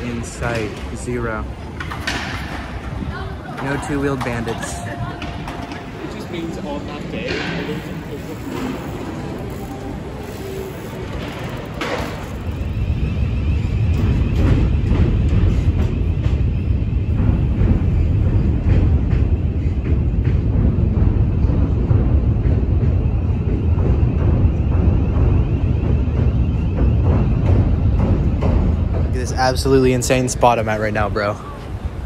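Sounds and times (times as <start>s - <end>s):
low rumble of city noise: 0.0s - 32.0s.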